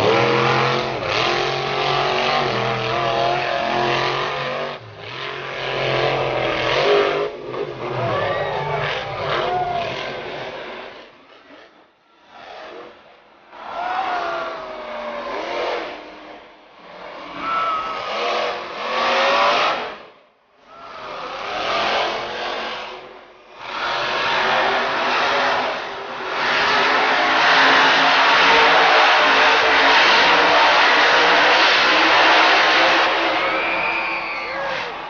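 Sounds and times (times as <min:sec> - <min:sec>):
truck engine revving: 0:00.0 - 0:11.1, 0:14.8 - 0:20.1, 0:21.1 - 0:35.0.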